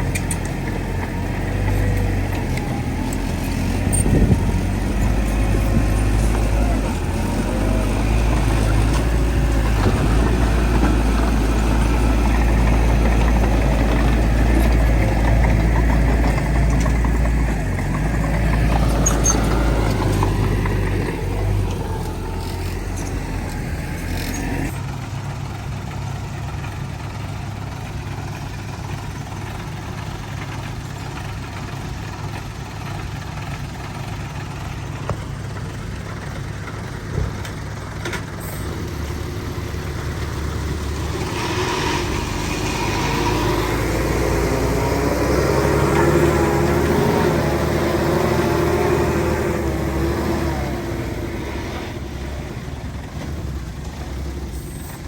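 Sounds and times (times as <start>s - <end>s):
engine idling: 0.0s - 55.0s
heavy diesel machinery engines: 0.0s - 55.0s.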